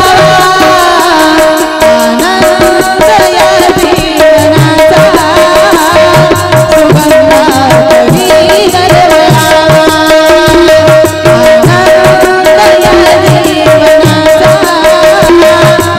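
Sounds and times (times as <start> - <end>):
tabla beating a rhythm: 0.0 - 15.9.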